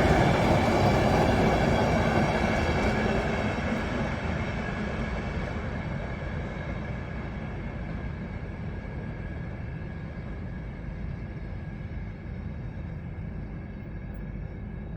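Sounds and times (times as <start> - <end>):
train rumbling on rails: 0.0 - 13.1.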